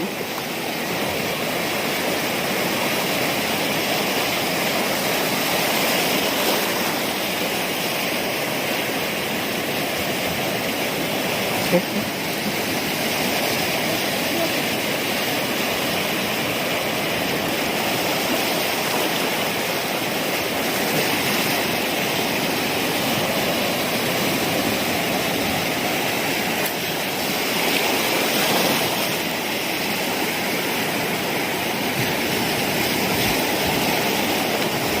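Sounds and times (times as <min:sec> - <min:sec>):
rough sea rushing: 0:00.0 - 0:35.0.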